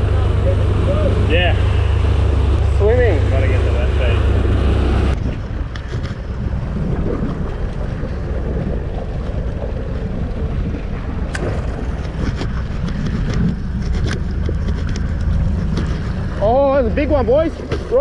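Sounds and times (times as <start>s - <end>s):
water washing against hull: 0.0s - 18.0s
wind buffeting microphone: 0.0s - 18.0s.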